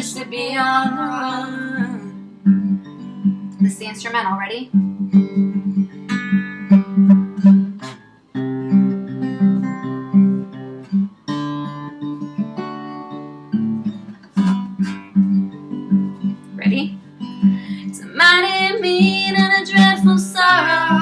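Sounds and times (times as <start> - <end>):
acoustic guitar strumming and picking: 0.0 - 21.0.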